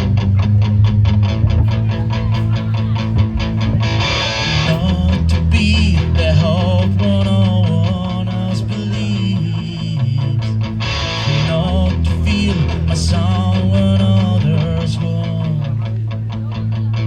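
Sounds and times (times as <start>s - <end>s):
bending guitar lead line: 0.0s - 17.0s
rock band playing: 0.0s - 17.0s.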